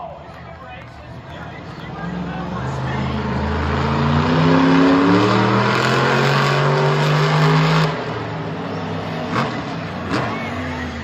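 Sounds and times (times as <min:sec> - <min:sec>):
engines revving high: 0:01.6 - 0:11.0.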